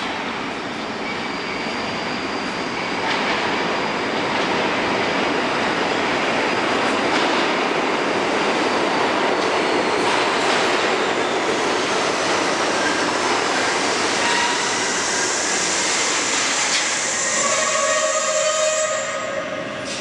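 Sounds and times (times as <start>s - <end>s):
subway train rattling over track: 0.0s - 20.0s.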